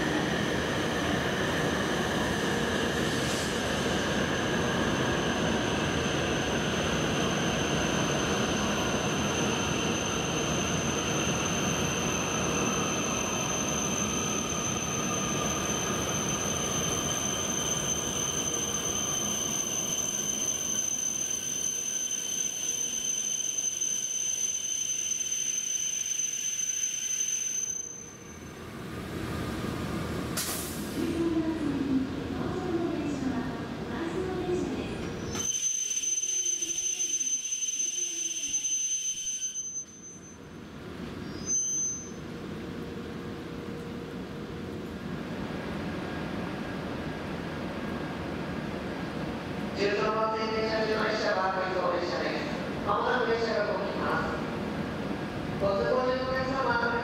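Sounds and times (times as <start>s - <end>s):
train rumbling through station: 0.0s - 57.0s.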